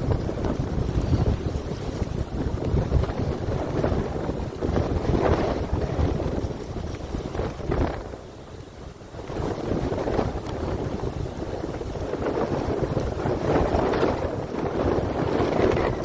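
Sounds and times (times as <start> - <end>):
waves breaking: 0.0 - 16.0
wind buffeting microphone: 0.0 - 16.0.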